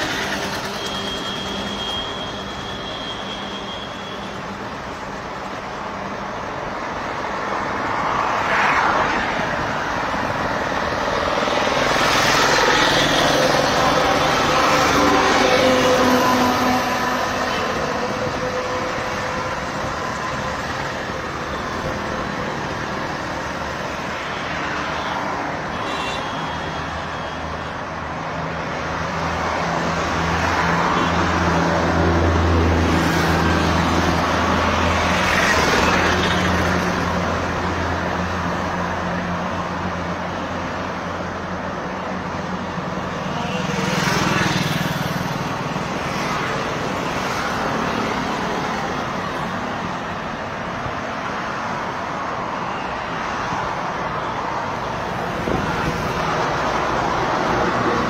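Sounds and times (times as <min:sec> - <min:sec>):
passing traffic: 0:00.0 - 0:58.0.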